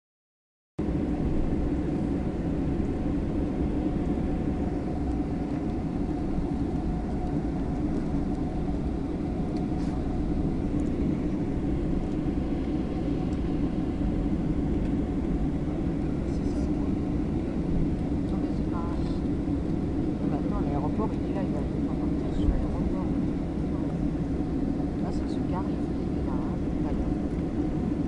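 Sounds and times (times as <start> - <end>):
distant jet engines droning: 0.8 - 28.0
faint hum: 0.8 - 28.0.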